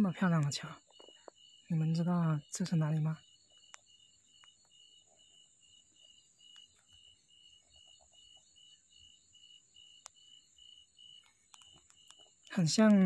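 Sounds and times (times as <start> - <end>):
faint insects chirping: 0.0 - 13.0.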